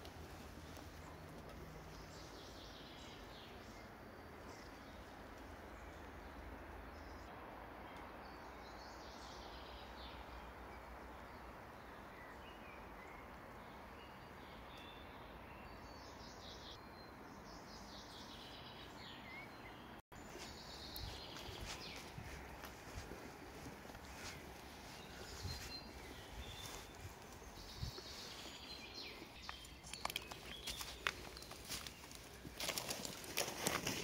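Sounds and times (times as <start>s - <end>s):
birds chirping: 0.0s - 34.0s
outdoor ambience hiss: 0.0s - 34.0s.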